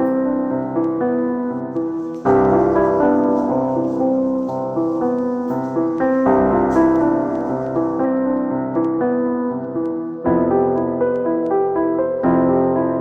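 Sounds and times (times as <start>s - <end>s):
piano playing gentle chords: 0.0s - 13.0s.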